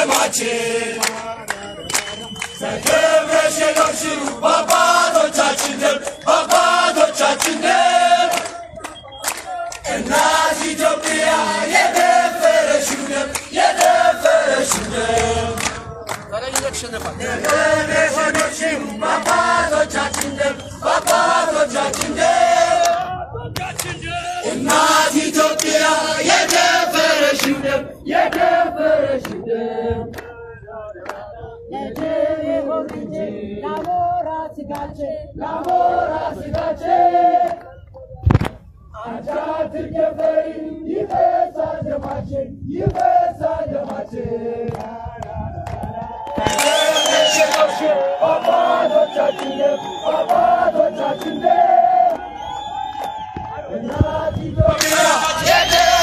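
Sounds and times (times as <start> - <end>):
group of people singing: 0.0 - 16.3, 17.0 - 38.2, 38.9 - 56.0.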